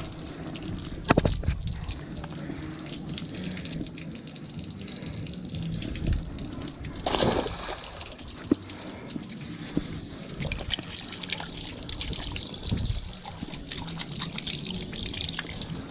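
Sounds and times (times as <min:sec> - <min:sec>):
water rush: 0:00.0 - 0:15.9
water sloshing and trickling: 0:00.0 - 0:15.9.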